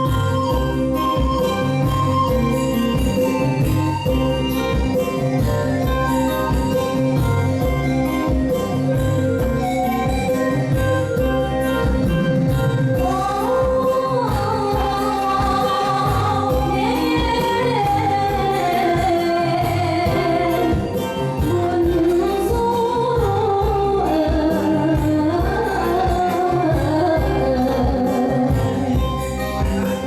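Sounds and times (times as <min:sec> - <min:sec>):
band with steady beat: 0:00.0 - 0:30.0.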